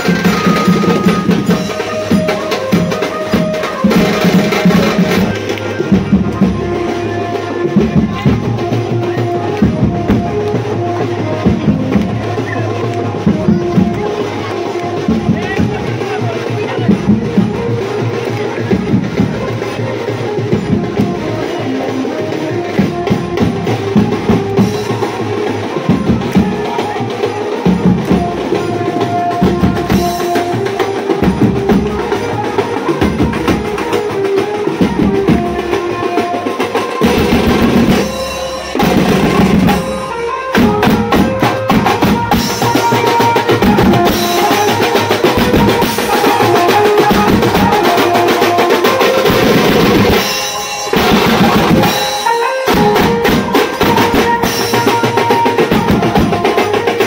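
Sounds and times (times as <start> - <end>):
drum kit and bass drums beating: 0.0 - 57.0
keyboard melody: 0.0 - 57.0.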